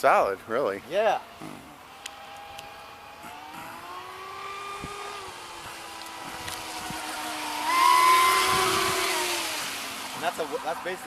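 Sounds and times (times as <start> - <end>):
rc boat motor whine: 0.8 - 11.0.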